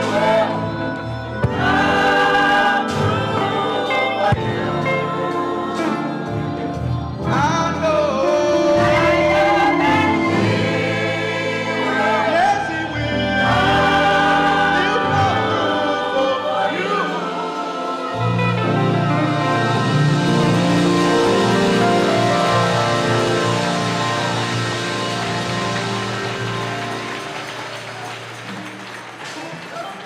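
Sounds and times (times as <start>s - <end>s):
gospel choir singing: 0.0s - 29.2s.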